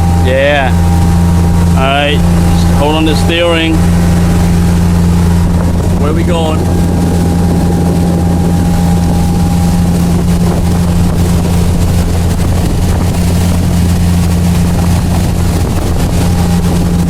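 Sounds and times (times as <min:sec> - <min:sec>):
motorboat engine running: 0:00.0 - 0:17.0
wind noise on microphone: 0:00.0 - 0:17.0.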